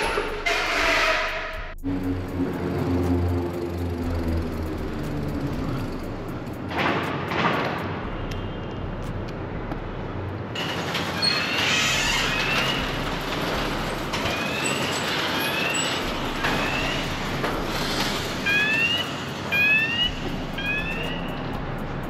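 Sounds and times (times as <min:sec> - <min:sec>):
rolling and wind noise: 0:02.2 - 0:22.0.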